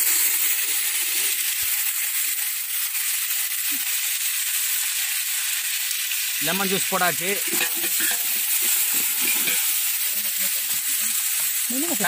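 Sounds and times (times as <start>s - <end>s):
juice sizzling in hot oil: 0.0s - 12.0s.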